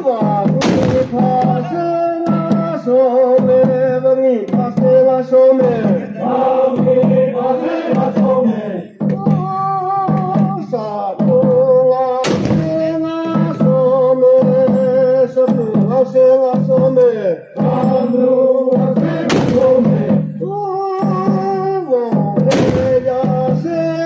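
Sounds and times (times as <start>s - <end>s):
chant-like singing: 0.0s - 15.8s, 16.5s - 24.0s.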